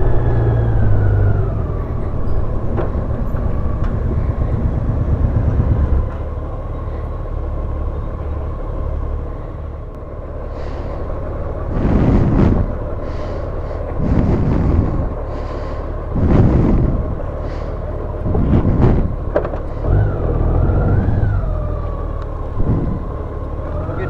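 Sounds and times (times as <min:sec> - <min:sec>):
motorcycle engine and road rumble: 0:00.0 - 0:24.0
thin steady whine: 0:00.0 - 0:24.0.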